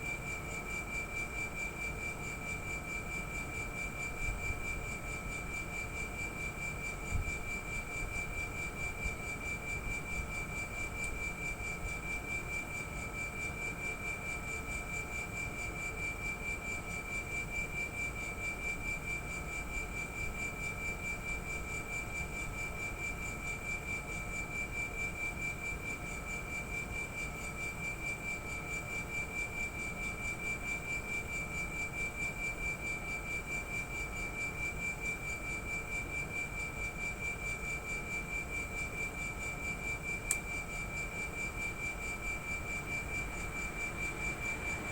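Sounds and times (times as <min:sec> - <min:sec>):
air conditioner compressor whine: 0:00.0 - 0:44.9.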